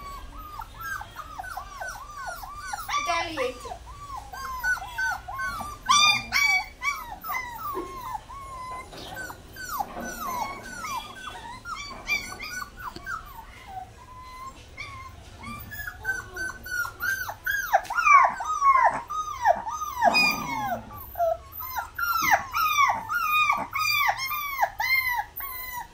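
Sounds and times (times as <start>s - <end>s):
puppies whining: 0.0s - 25.9s.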